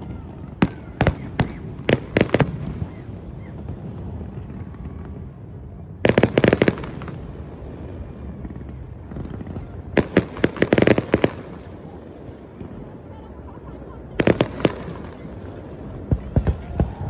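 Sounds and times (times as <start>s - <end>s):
fireworks cracking: 0.0s - 17.0s.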